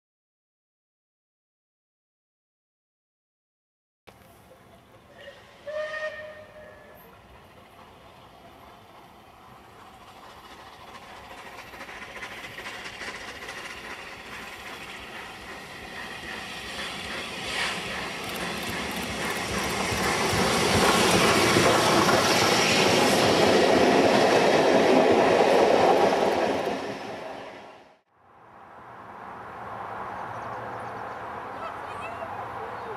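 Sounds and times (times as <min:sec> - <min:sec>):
steam locomotive passing at speed: 0:04.1 - 0:32.9.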